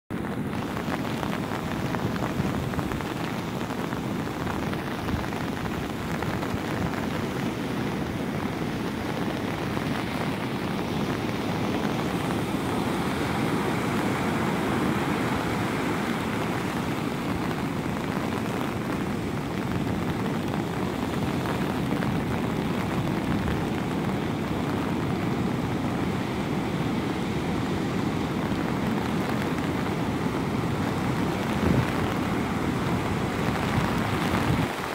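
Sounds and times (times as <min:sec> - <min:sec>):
ocean surf breaking: 0:00.1 - 0:34.9.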